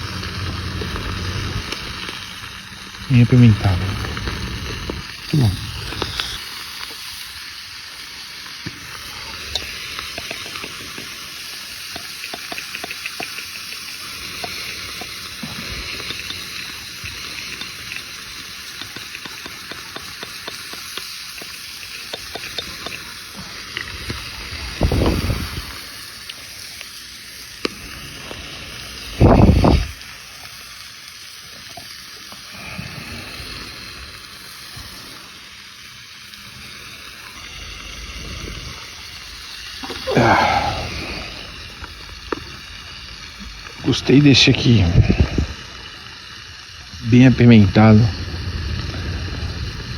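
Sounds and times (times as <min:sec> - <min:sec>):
food sizzling over a fire: 0:00.0 - 0:49.9.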